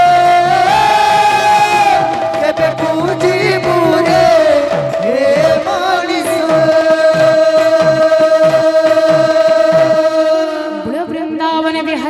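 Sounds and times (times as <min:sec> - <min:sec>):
hand drum beating: 0:00.0 - 0:10.6
person singing: 0:00.0 - 0:12.0.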